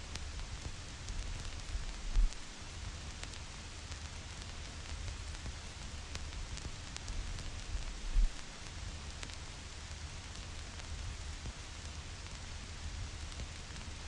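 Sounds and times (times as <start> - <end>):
vinyl record crackle: 0.0 - 14.0.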